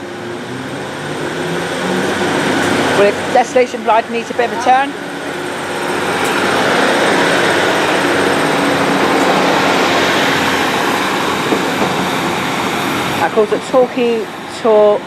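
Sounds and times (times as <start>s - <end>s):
diesel train engine rumbling: 0.0s - 15.0s.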